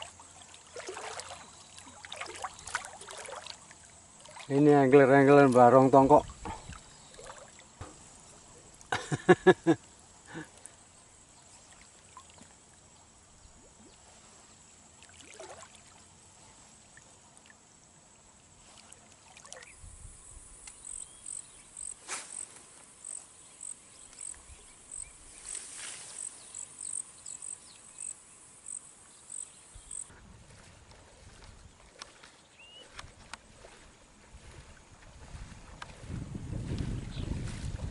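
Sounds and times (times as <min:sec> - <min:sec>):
rapid pulsed insect calls: 0:00.0 - 0:37.8
insect chirping: 0:00.0 - 0:37.9
insects buzzing: 0:00.0 - 0:37.9.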